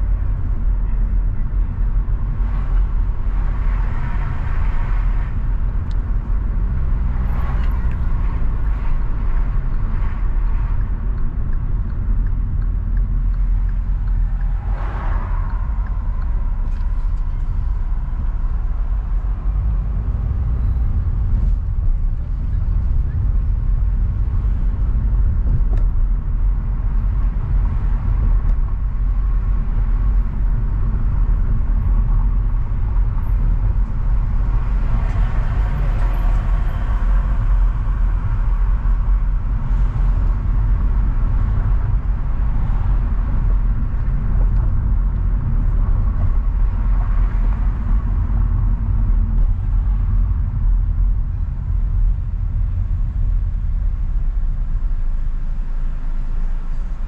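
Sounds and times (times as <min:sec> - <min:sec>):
car engine and road noise: 0:00.0 - 0:57.0
passing traffic: 0:00.0 - 0:57.0.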